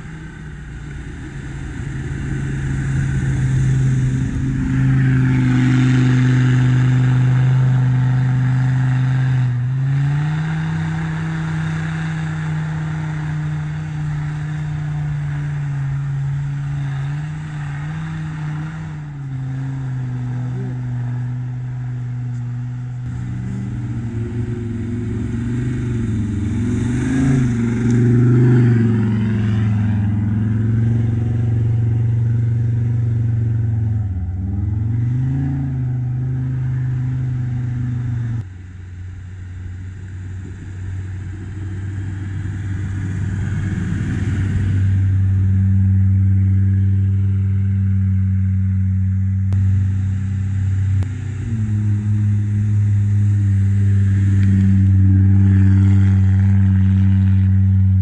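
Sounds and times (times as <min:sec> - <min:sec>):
off-road engine revving under load: 0:00.0 - 0:58.0.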